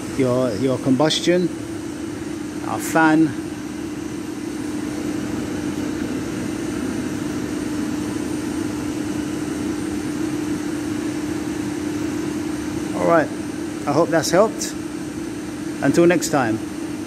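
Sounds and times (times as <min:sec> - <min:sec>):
boiler fan droning: 0:00.0 - 0:17.0.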